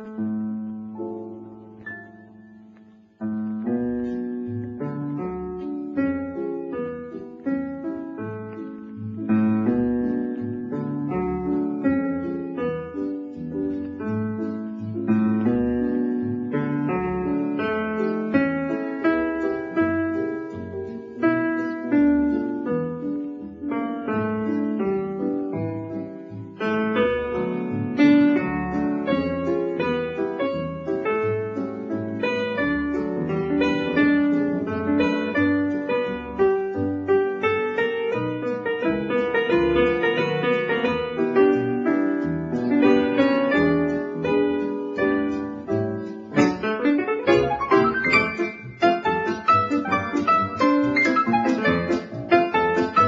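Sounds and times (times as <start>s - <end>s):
piano melody: 0.0s - 53.0s.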